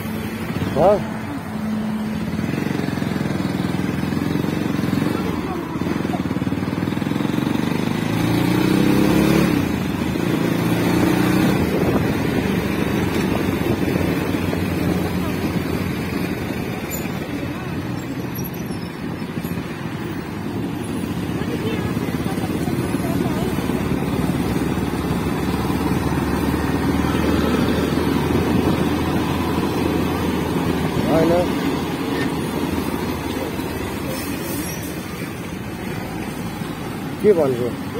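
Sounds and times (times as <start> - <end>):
motorbike engine speeding up: 0.0 - 37.9
road and wind noise: 0.0 - 37.9.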